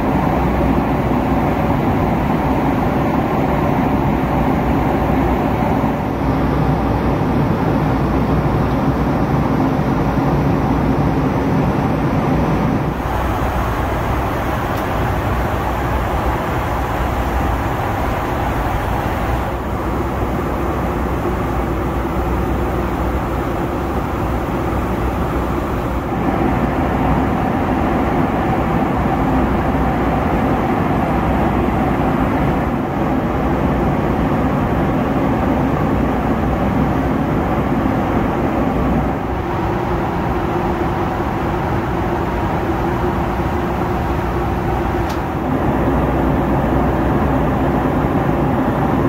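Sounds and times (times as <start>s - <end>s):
airplane cabin engine roar: 0.0s - 49.0s.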